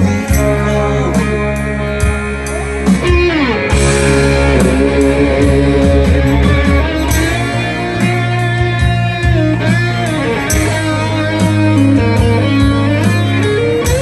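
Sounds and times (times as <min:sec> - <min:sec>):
bass guitar: 0:00.0 - 0:14.0
electric guitar melody: 0:00.0 - 0:14.0
rock drums: 0:00.0 - 0:14.0.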